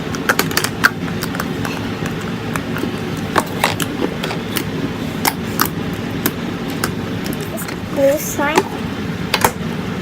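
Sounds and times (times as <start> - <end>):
slime squishing: 0.0 - 9.6
steady low hum: 0.0 - 10.0.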